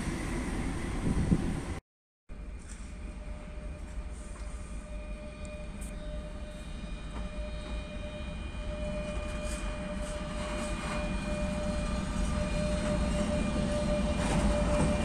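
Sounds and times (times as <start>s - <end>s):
freight train rumbling past: 0.0s - 1.8s, 2.4s - 15.0s
locomotive whine: 0.0s - 1.8s, 2.4s - 15.0s.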